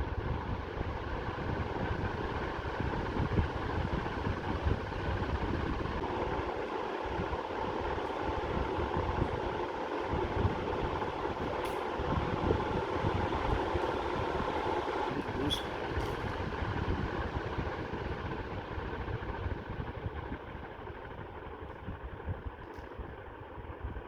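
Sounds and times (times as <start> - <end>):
ceiling fan running: 0.0 - 24.0.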